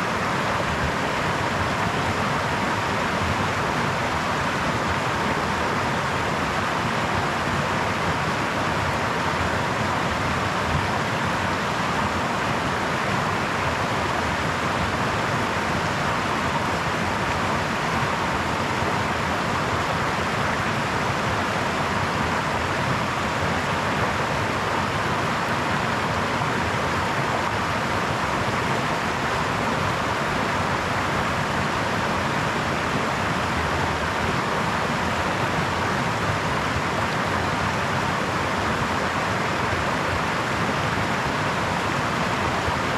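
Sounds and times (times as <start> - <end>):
brook babbling: 0.0 - 42.9.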